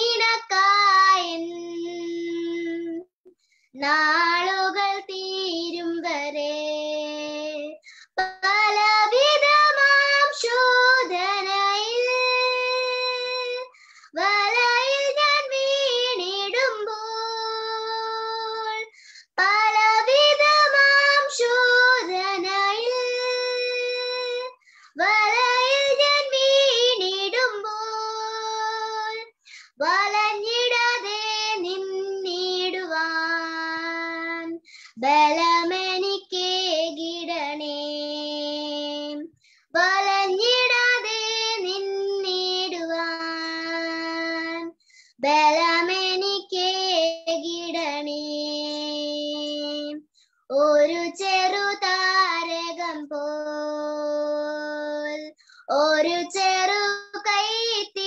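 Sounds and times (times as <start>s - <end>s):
girl singing unaccompanied: 0.0s - 58.0s.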